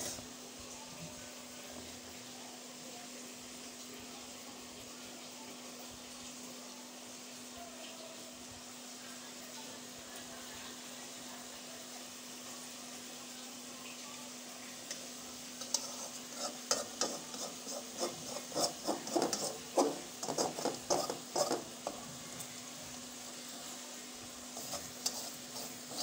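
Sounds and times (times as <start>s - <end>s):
prawns sizzling in oil: 0.0s - 26.0s.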